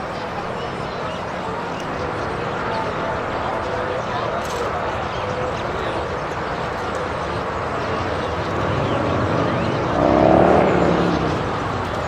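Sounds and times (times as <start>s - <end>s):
flock of birds chattering: 0.0s - 12.0s
low traffic rumble: 0.0s - 12.0s.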